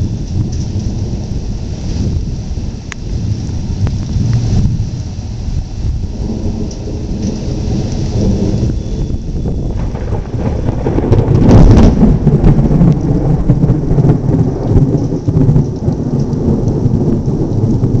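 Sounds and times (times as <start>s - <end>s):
rain falling: 0.0s - 18.0s
thunder rumbling: 0.0s - 18.0s.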